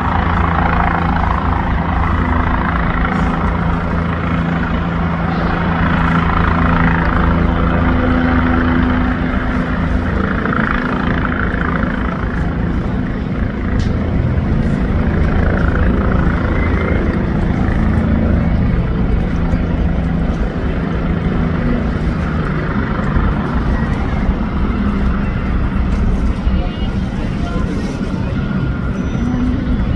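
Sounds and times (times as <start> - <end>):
helicopter rotor and engine: 0.0 - 29.9.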